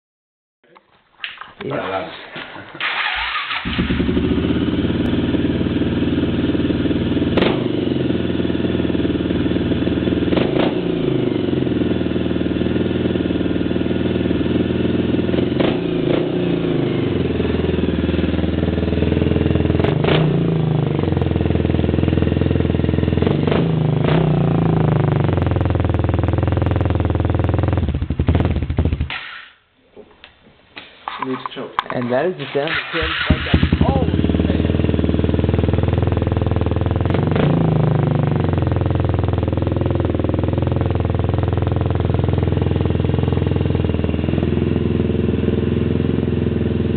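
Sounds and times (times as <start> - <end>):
motorcycle engine revving: 2.8 - 29.2, 32.5 - 46.9.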